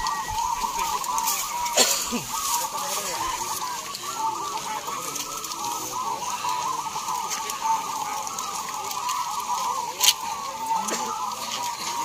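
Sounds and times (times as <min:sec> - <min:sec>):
doves cooing: 0:00.0 - 0:12.0.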